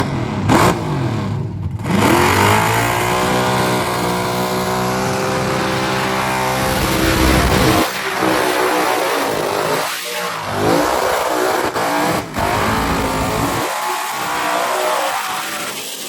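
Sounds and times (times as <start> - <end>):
car engine revving hard: 0.0 - 15.9.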